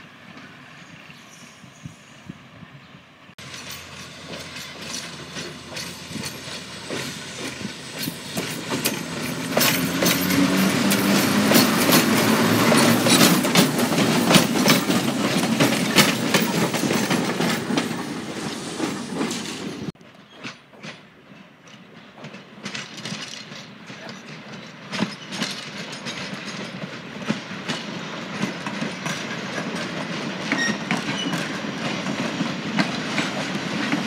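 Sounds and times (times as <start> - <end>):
train wheels clicking over rail joints: 3.4 - 34.0.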